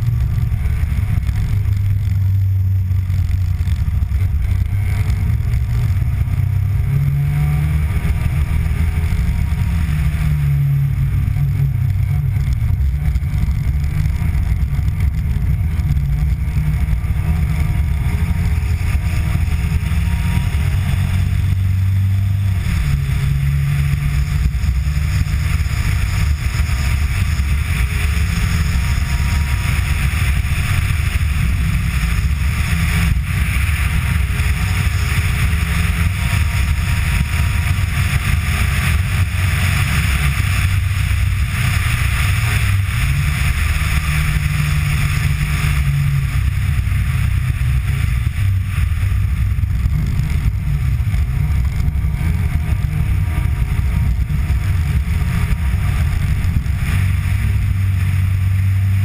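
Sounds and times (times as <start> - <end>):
rally car engine drone: 0.0 - 59.0
rushing noise: 0.0 - 59.0.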